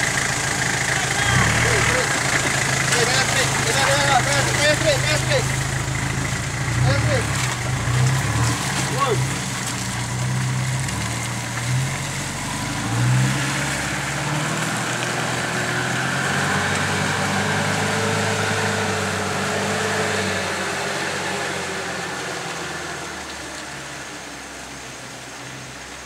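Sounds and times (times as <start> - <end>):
vehicle engine revving: 0.0 - 25.6.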